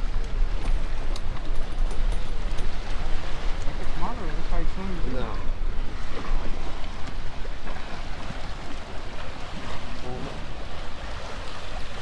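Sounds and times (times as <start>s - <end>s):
surf washing against pilings: 0.0s - 12.0s.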